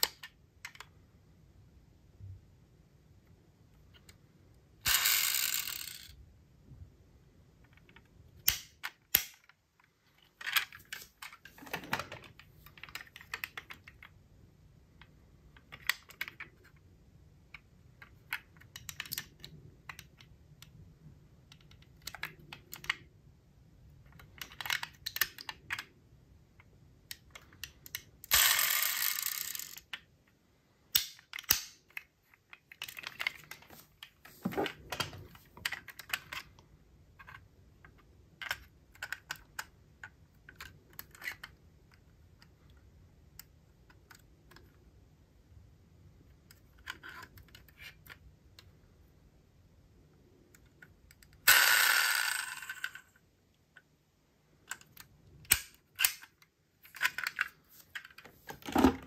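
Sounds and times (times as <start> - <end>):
toy cars and packaging clicking: 0.0 - 1.0, 4.8 - 6.2, 7.6 - 14.2, 14.9 - 20.8, 21.4 - 23.1, 23.9 - 44.9, 46.2 - 48.8, 50.2 - 53.9, 54.5 - 59.0.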